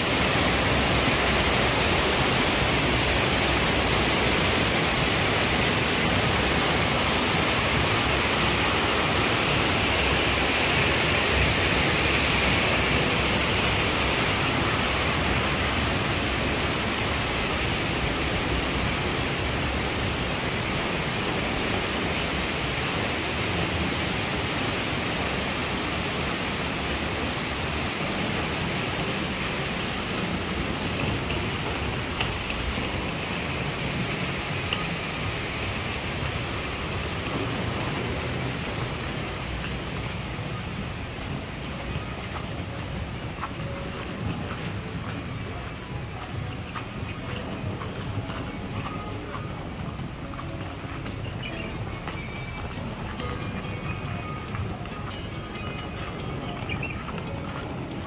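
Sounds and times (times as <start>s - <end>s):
falling water rushing: 0.0s - 58.0s.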